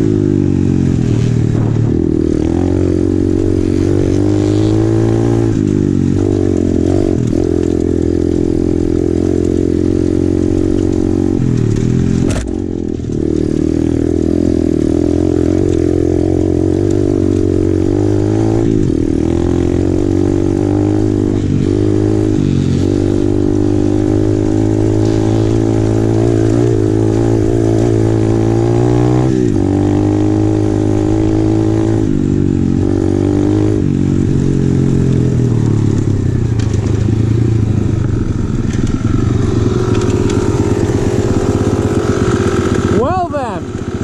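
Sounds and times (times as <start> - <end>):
motorbike engine revving: 0.0 - 44.0.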